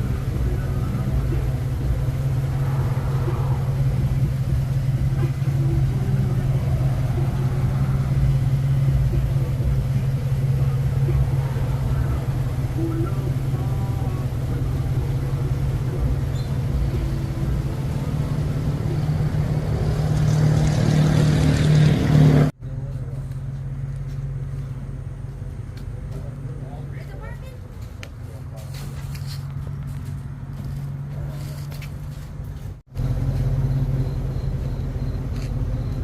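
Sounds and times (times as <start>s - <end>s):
car engine hum: 0.0s - 36.0s
road noise rumble: 0.0s - 36.0s.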